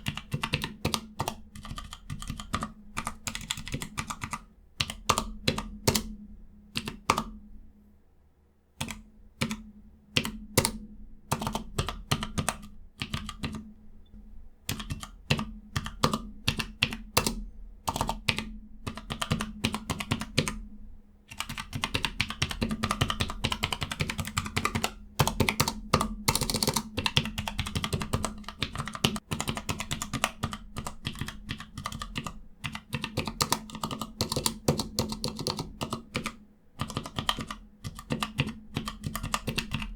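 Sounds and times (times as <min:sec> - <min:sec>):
mechanical keyboard typing: 0:00.0 - 0:06.1, 0:06.8 - 0:07.3, 0:08.8 - 0:09.6, 0:10.2 - 0:13.6, 0:14.7 - 0:20.6, 0:21.3 - 0:39.9.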